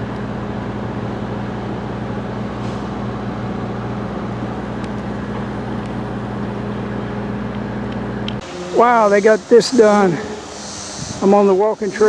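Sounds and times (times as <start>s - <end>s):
low engine hum: 0.0s - 11.6s.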